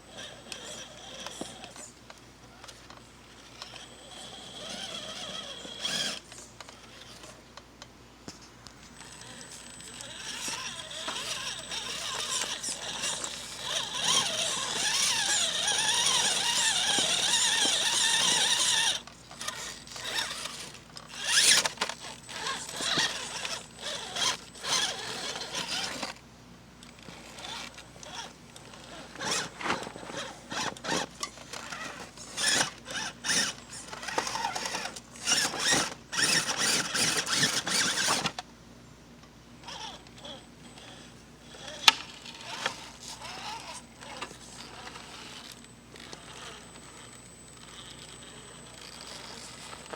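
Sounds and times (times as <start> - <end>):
electric motor and gears whining: 0.0 - 1.9, 2.6 - 7.4, 8.9 - 26.2, 26.8 - 38.4, 39.6 - 49.9.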